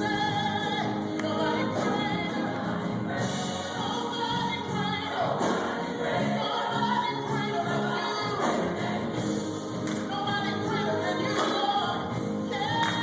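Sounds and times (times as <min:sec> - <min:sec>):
choir singing gospel: 0:00.0 - 0:13.0.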